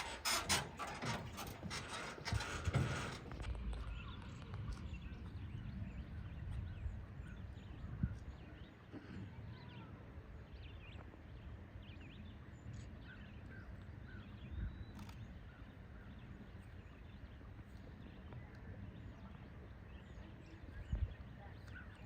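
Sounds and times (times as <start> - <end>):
small birds chirping: 2.0 - 22.0.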